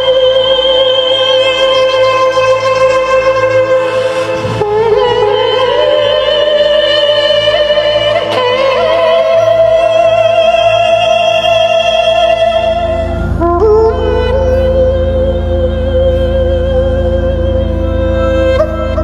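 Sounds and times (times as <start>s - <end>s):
instrumental backing music: 0.0s - 19.0s.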